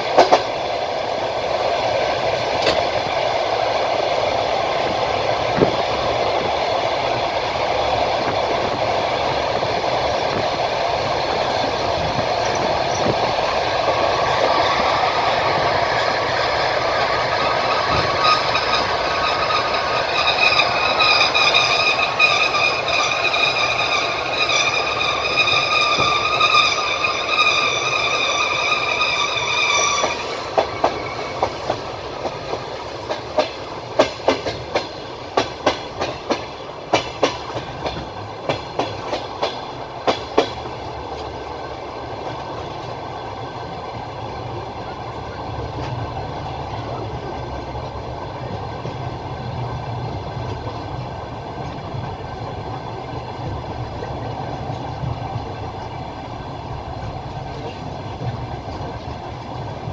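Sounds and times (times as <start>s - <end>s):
train rolling rumble: 0.0s - 59.9s
train wheels clicking over joints: 0.0s - 59.9s.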